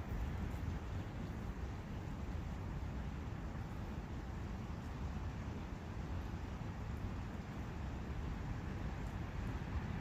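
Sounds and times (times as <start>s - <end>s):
brook running water: 0.0s - 10.0s
wind: 0.0s - 10.0s.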